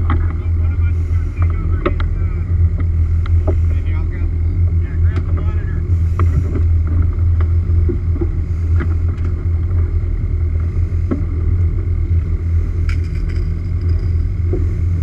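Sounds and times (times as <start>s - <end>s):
boat engine and pump drone: 0.0s - 15.0s.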